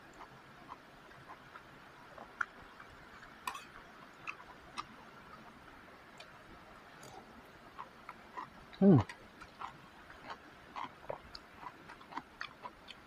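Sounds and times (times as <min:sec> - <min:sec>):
person chewing food: 0:00.1 - 0:05.5, 0:06.2 - 0:13.0.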